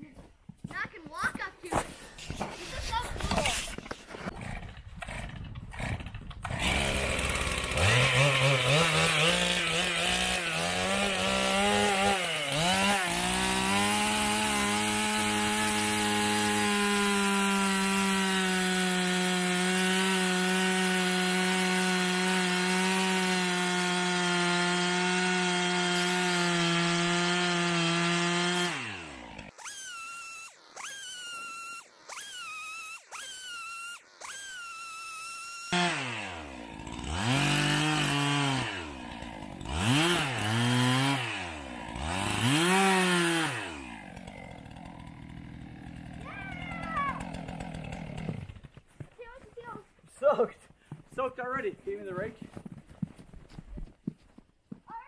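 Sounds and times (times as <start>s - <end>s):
chainsaw revving and cutting ice: 1.7s - 50.4s.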